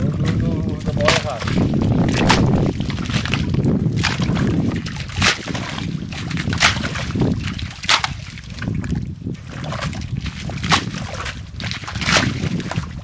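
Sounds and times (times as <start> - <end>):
muddy water sloshing: 0.0 - 13.0
water splashes: 0.0 - 13.0.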